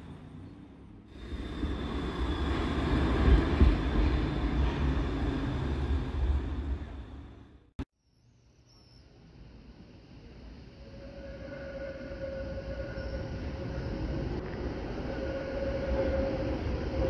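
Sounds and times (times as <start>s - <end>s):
tram wheels rumbling on rail: 0.0s - 7.7s, 10.0s - 17.0s.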